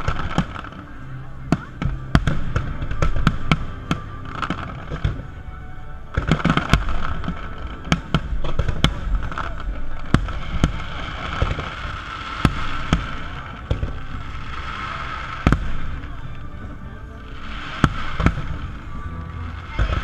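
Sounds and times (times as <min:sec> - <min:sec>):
fireworks bursting with sharp bangs: 0:00.0 - 0:05.5, 0:06.1 - 0:20.0.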